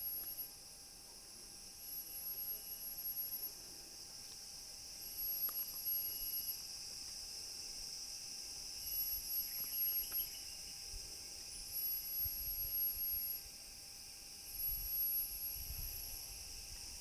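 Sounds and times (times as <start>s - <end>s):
insects droning high-pitched: 0.0s - 17.0s
shrill insect call: 0.0s - 17.0s.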